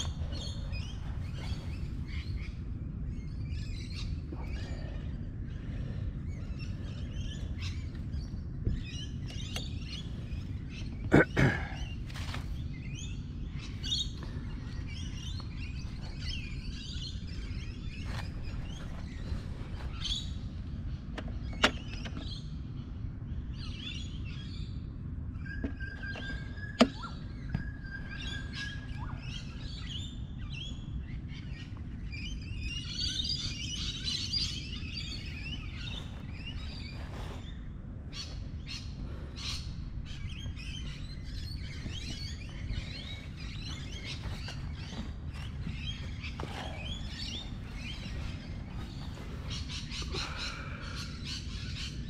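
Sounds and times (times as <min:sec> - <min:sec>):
birds chirping and calling: 0:00.0 - 0:52.0
low outdoor rumble: 0:00.0 - 0:52.0.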